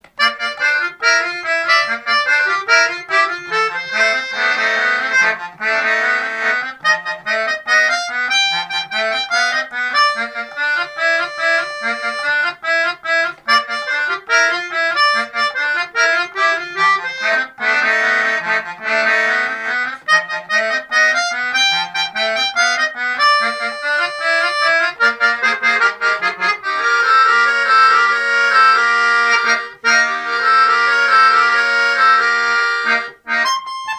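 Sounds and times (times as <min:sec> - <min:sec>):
melodica duet: 0:00.0 - 0:33.9.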